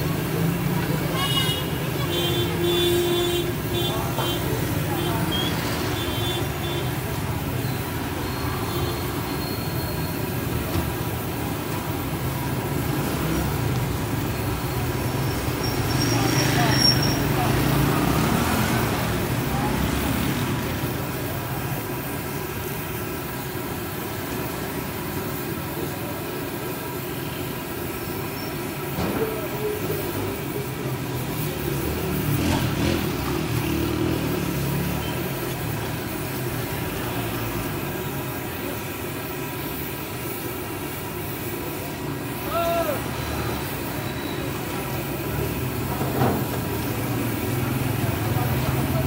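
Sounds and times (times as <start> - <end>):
oil hissing while deep-frying: 0.0 - 49.0.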